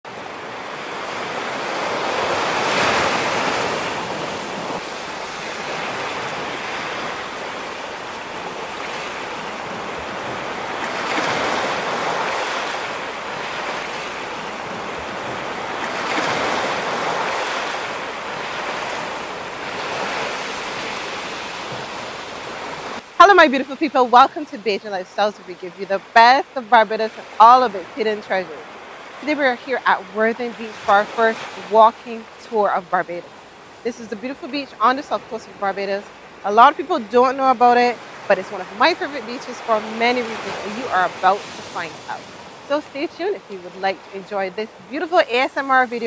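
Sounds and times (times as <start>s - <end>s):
wind: 0.0s - 46.0s
waves breaking on sandy beach: 0.1s - 46.0s.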